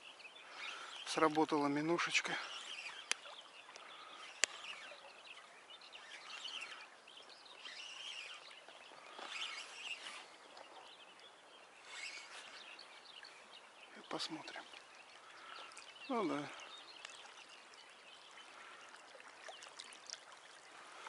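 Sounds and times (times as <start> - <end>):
birds chirping and whistling: 0.0 - 18.9.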